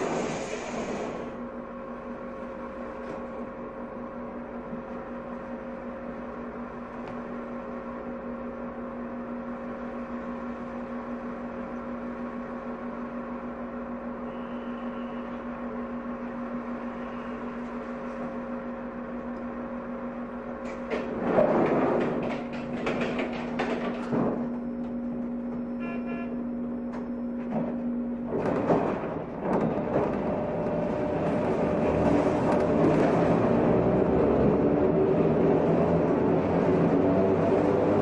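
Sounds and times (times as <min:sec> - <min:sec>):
electric train humming: 0:00.0 - 0:38.0.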